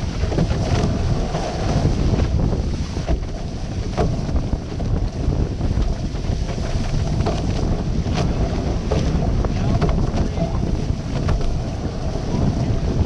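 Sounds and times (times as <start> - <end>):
water rushing past hulls: 0.0 - 13.0
wind buffeting microphone: 0.0 - 13.0.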